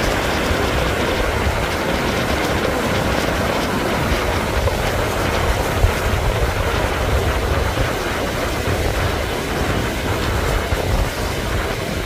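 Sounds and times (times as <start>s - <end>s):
surf breaking on shore: 0.0s - 12.0s
wind buffeting microphone: 0.0s - 12.0s.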